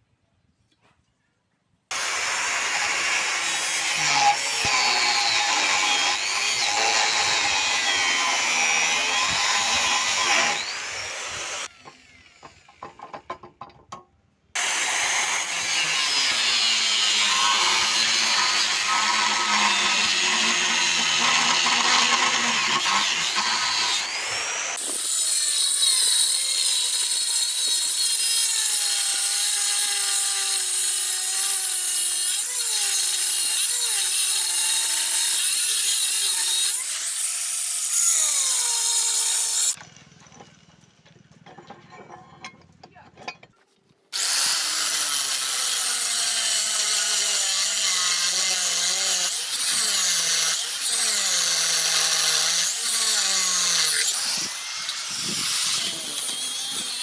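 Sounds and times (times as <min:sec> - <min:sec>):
power tools working metal: 0:01.9 - 0:13.4, 0:14.6 - 0:43.4, 0:44.2 - 0:57.0.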